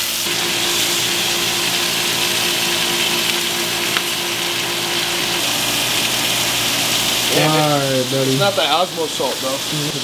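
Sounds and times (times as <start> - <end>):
steaks sizzling in a skillet: 0.0 - 10.0.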